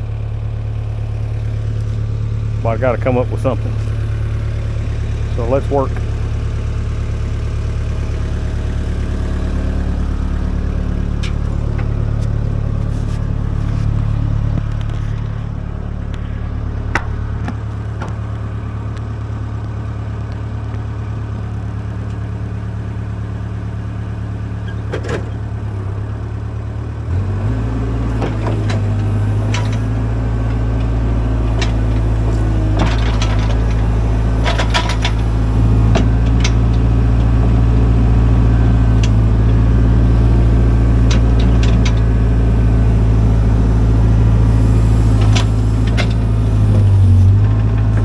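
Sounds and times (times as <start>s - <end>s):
excavator diesel engine: 0.0s - 48.0s.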